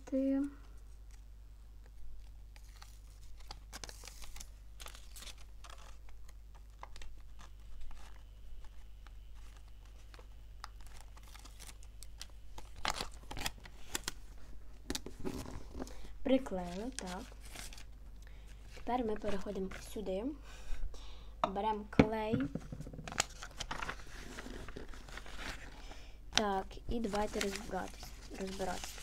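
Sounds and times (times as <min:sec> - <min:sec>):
paper and tape crackling: 0:01.8 - 0:20.1, 0:23.1 - 0:29.0.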